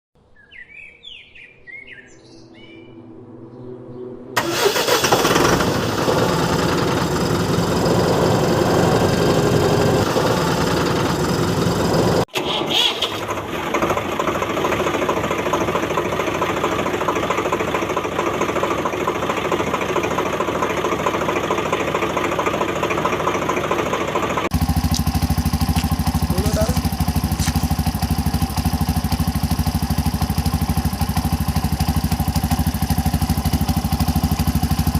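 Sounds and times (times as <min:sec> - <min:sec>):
vehicle engine running: 0:04.4 - 0:12.3, 0:13.2 - 0:34.9.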